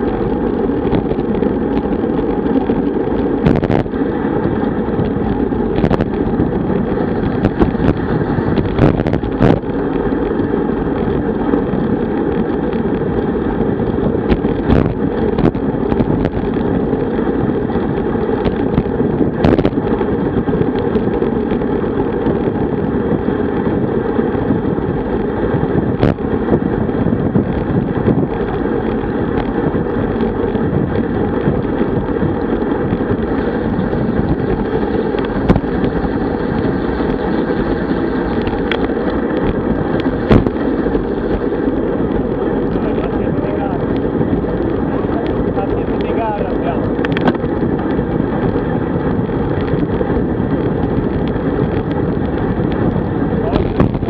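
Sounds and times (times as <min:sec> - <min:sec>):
road noise: 0:00.0 - 0:54.0
wind on microphone: 0:00.0 - 0:54.0.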